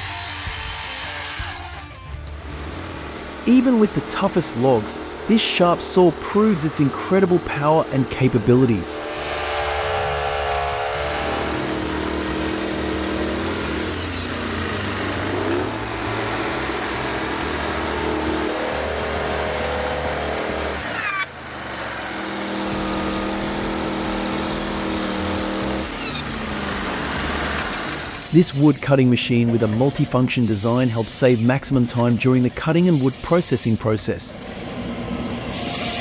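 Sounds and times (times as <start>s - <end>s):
band sawmill sawing log: 0.0s - 36.0s.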